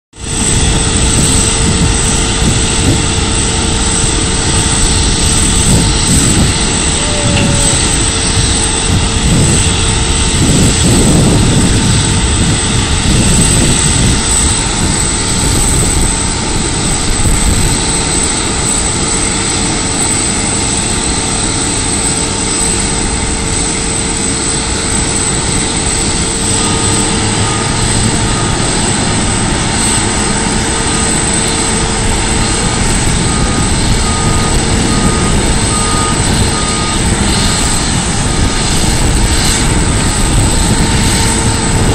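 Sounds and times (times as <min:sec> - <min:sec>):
jet engines idling: 0:00.2 - 0:41.9.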